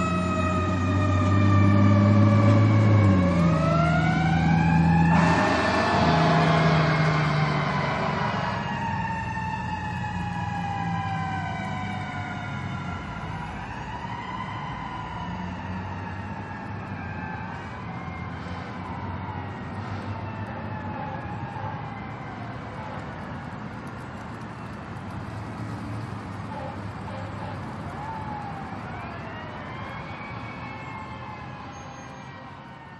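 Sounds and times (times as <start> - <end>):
emergency sirens wailing: 0.0 - 32.9
low traffic rumble: 0.0 - 32.9.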